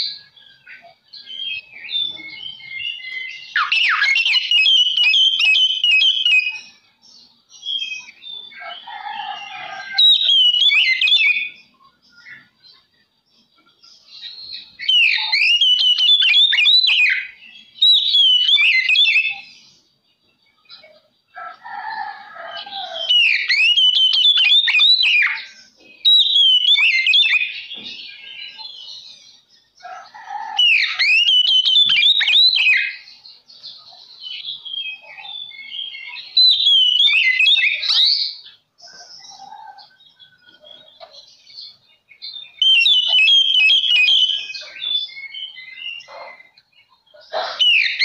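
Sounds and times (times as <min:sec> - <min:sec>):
magpie-robin singing: 0:00.0 - 0:21.1, 0:22.5 - 0:48.0.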